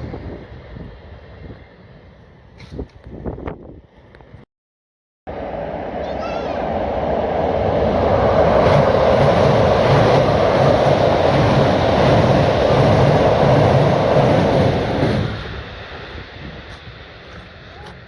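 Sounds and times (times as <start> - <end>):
train passing at speed: 0.0 - 4.1, 5.3 - 18.0.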